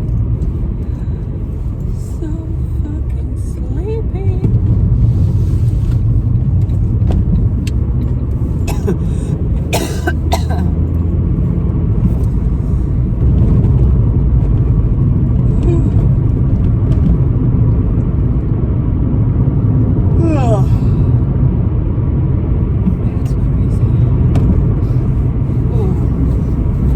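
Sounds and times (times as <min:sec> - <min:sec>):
car cabin road and engine rumble: 0:00.0 - 0:26.9.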